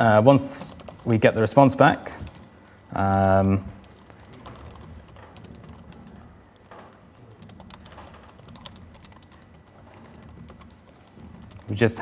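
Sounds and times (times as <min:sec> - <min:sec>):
faint low hum: 0:00.0 - 0:12.0
laptop keyboard typing: 0:00.4 - 0:12.0.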